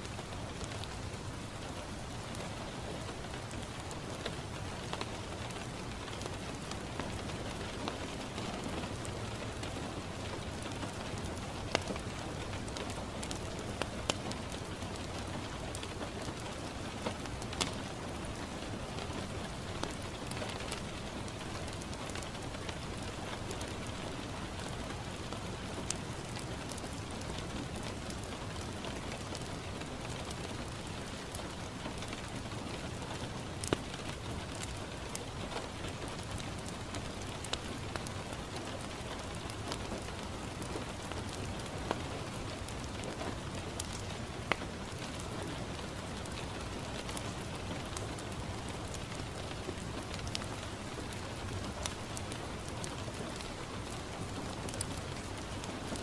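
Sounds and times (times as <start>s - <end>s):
rain on a window: 0.0s - 56.0s
wood fire crackling and popping: 0.0s - 56.0s.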